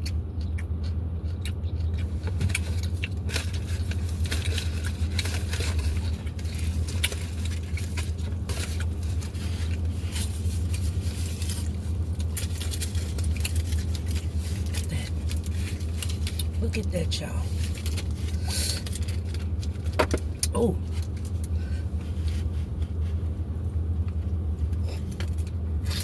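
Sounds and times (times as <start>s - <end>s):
crunching and chewing food: 0.0s - 26.0s
low hum: 0.0s - 26.0s.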